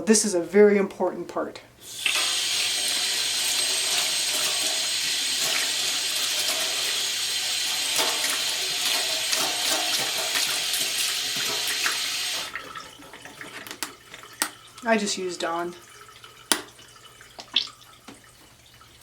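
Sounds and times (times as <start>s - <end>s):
water running from a tap: 1.8s - 19.0s.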